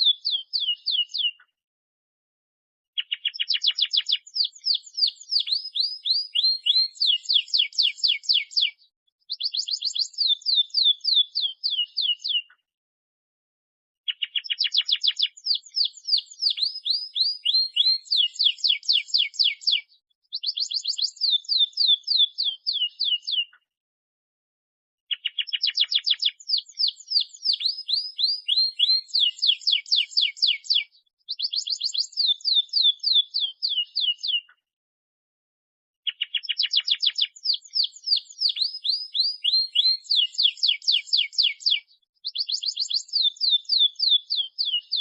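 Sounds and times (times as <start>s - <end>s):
canary singing trills: 0.0s - 1.5s, 3.0s - 12.6s, 14.1s - 23.6s, 25.1s - 34.5s, 36.0s - 45.0s.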